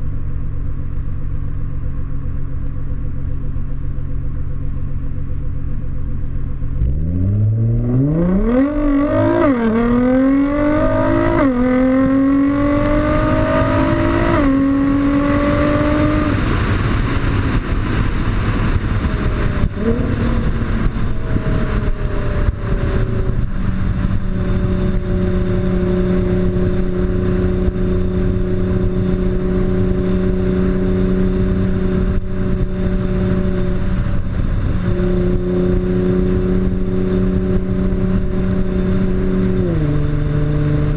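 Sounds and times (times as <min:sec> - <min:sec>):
car engine accelerating: 0:00.0 - 0:40.9
car engine droning while cruising: 0:00.0 - 0:40.9.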